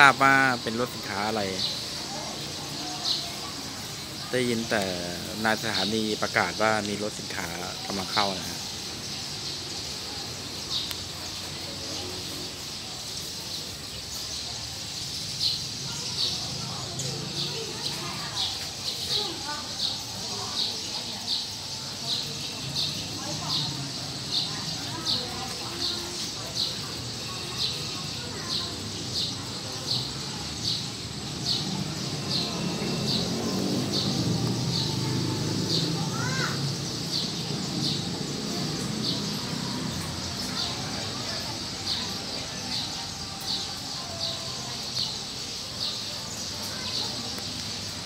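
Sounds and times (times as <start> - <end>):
faint murmur of voices: 0.0 - 48.0
small birds chirping: 0.0 - 48.0.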